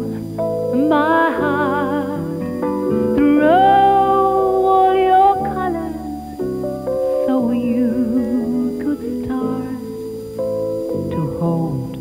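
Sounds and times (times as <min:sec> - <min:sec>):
pop song vocal melody: 0:00.0 - 0:10.2, 0:11.0 - 0:12.0
plucked guitar: 0:00.0 - 0:12.0
steady bass: 0:00.0 - 0:12.0.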